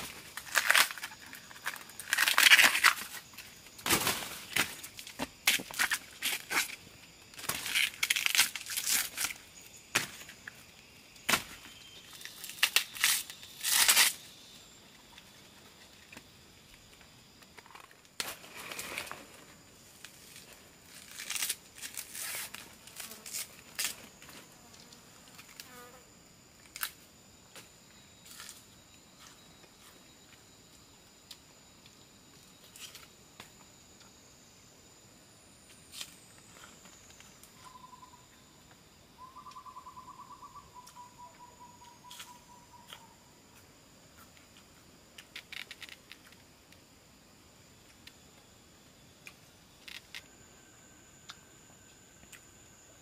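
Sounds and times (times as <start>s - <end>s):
high insect drone: 0.0s - 53.0s.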